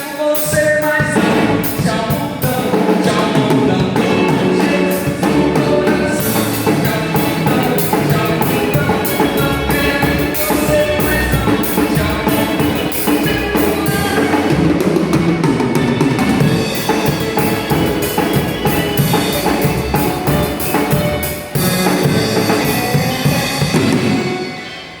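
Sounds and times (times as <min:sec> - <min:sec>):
band music: 0:00.0 - 0:25.0.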